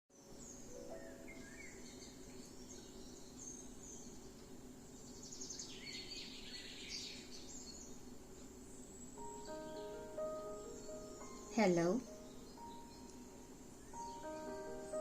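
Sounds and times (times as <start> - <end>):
faint birds chirping: 0.1 - 15.0
low background hum: 0.2 - 15.0.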